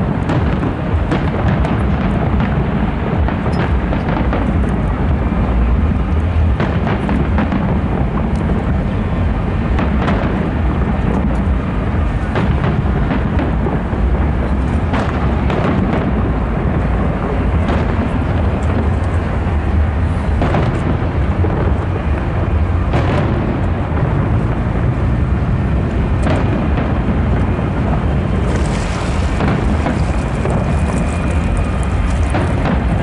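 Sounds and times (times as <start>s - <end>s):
fireworks booming: 0.0s - 33.0s
fireworks cracking: 0.0s - 33.0s.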